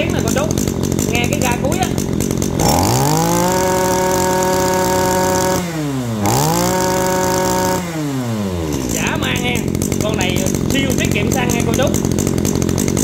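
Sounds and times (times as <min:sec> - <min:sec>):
brush cutter engine revving: 0:00.0 - 0:13.0.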